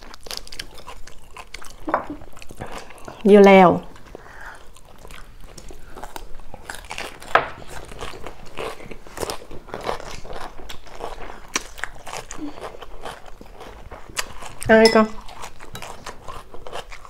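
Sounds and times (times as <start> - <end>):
crunching and chewing vegetables: 0.0 - 17.0.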